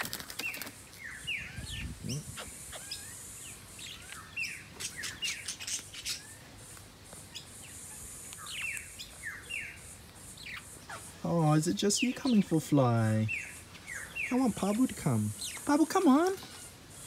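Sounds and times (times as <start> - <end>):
parrots chirping: 1.0 - 17.0.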